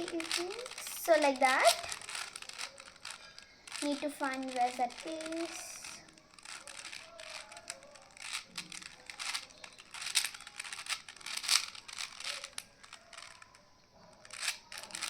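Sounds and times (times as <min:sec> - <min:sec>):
plastic puzzle cube clicking: 0:00.0 - 0:15.0.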